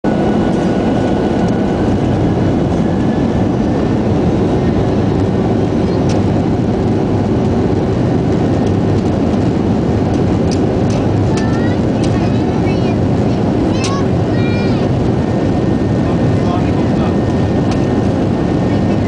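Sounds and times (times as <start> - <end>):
jet engine and runway rumble: 0.0 - 19.0.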